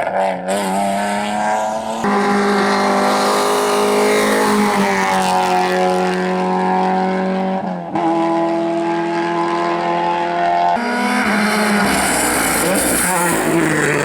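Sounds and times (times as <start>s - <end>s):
rally car engine at high revs: 0.0s - 14.0s.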